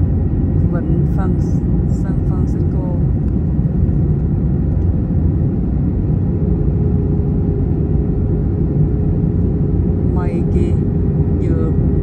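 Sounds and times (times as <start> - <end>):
jet engine rumble and rushing air: 0.0 - 12.0.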